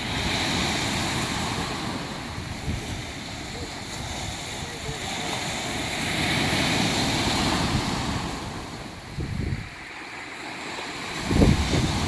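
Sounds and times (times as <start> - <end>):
small waves breaking on beach: 0.0 - 12.0
wind rumbling on microphone: 0.0 - 12.0.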